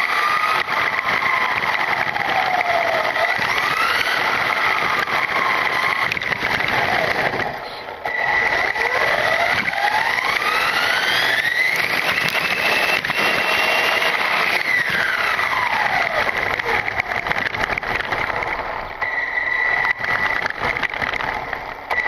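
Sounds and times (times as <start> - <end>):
electric rc car motor whine: 0.0 - 22.0
tyre noise on asphalt: 0.0 - 22.0.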